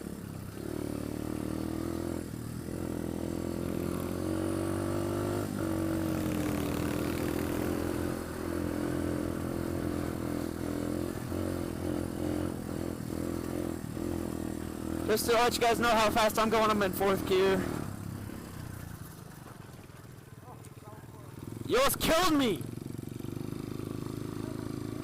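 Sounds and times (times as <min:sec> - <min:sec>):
pit bike engine revving: 0:00.0 - 0:19.8, 0:20.4 - 0:25.0.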